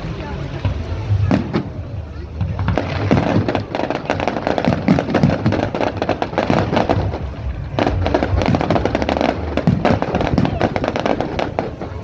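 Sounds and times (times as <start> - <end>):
fireworks crackling and banging: 0.0 - 12.0
wind on microphone: 0.0 - 12.0.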